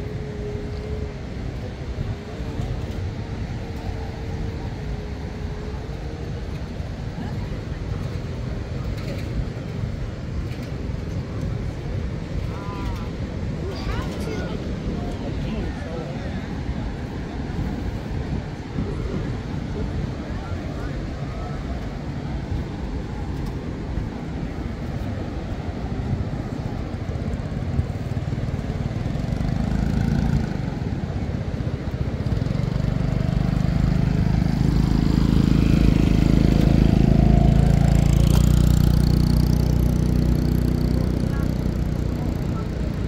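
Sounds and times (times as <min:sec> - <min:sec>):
engine droning: 0:00.0 - 0:43.0
outdoor noise: 0:00.0 - 0:43.0.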